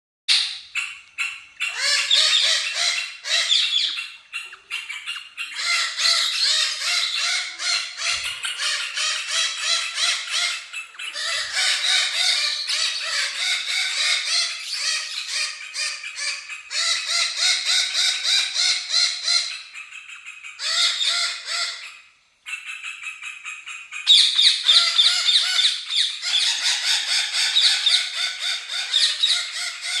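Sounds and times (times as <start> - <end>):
parakeets chattering and squawking: 0.3 - 30.0.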